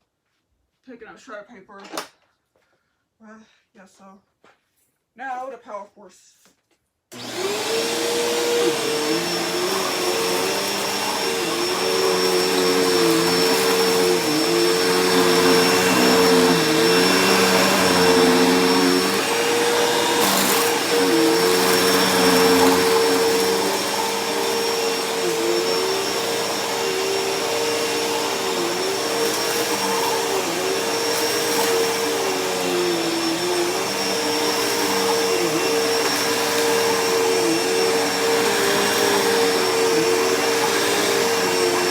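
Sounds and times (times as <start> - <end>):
upright vacuum running over paper: 7.2 - 41.9.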